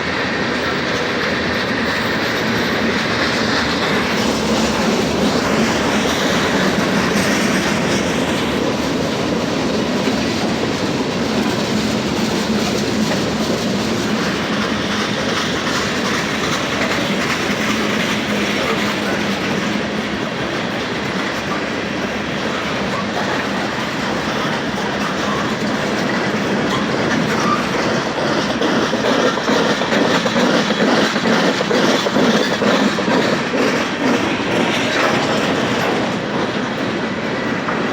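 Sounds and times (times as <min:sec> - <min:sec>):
freight train wheels on rails: 0:00.0 - 0:37.9.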